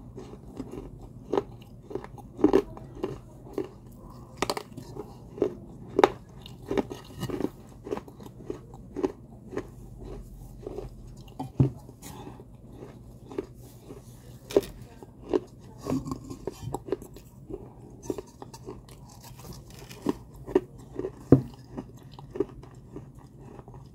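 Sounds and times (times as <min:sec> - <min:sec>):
crunching clay pot: 0:00.0 - 0:23.9.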